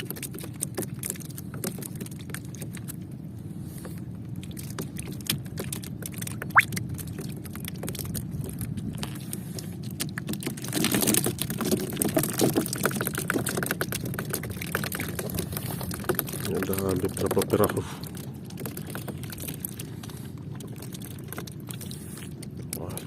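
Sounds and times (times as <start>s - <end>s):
fast patter of clicks: 0.0s - 3.1s, 4.4s - 23.0s.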